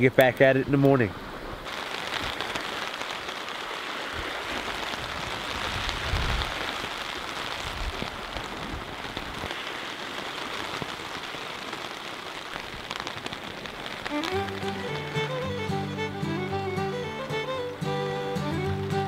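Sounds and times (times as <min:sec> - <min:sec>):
rain pattering on a tarp: 0:00.0 - 0:19.0.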